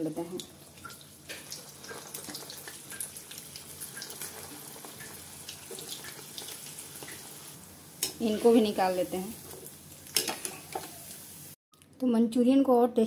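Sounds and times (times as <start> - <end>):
food deep-frying in oil: 0.0 - 11.6.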